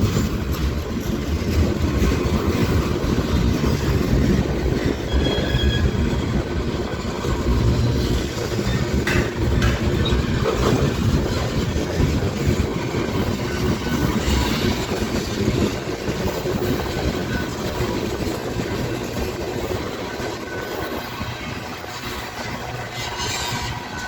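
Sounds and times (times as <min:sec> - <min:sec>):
freight train rumbling past: 0:00.0 - 0:24.0
steel wheels clattering on rails: 0:00.0 - 0:24.0.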